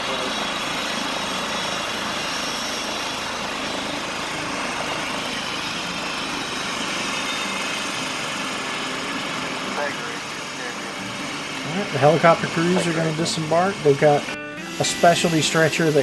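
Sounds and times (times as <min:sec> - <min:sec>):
faint engine whine: 0:00.0 - 0:16.0
helicopter rotor and engine: 0:00.0 - 0:16.0.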